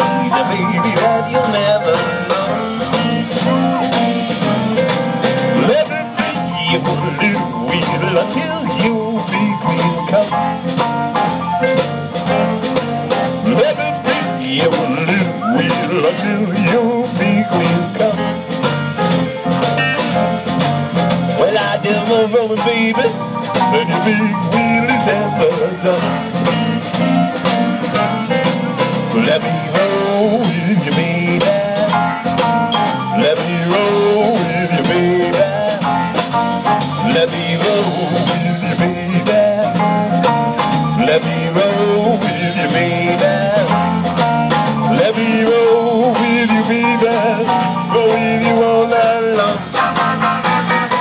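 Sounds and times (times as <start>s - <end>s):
live blues band playing: 0.0s - 51.0s.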